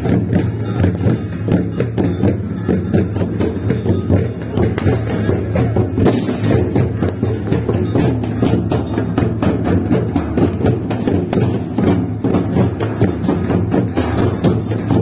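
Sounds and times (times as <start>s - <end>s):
fast drum beat: 0.0s - 15.0s.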